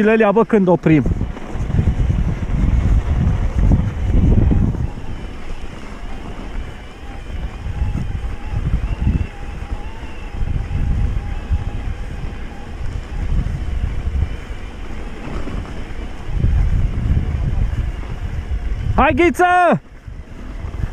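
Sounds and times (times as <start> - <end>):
wind buffeting microphone: 0.0 - 20.9
faint wavering whine: 0.4 - 19.0.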